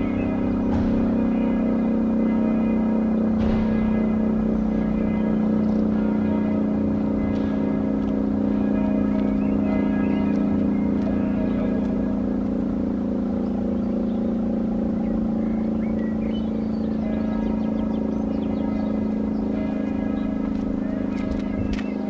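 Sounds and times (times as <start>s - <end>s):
rotary siren steady tone: 0.0s - 22.0s.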